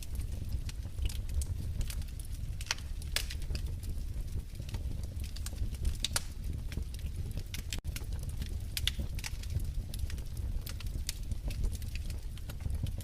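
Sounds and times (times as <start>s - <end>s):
low steady fire rumble: 0.0s - 13.0s
wood fire crackling: 0.0s - 13.0s.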